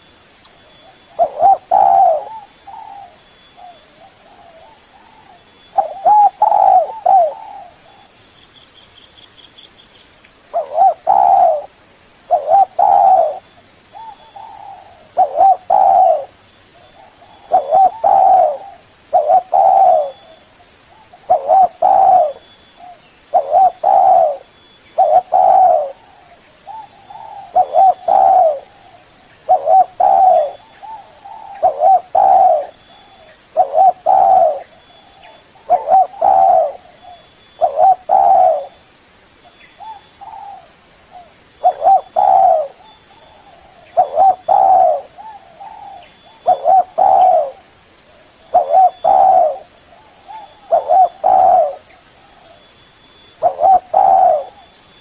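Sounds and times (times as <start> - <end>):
dove cooing: 0.8 - 8.1, 10.5 - 38.8, 39.8 - 52.7, 53.4 - 54.7.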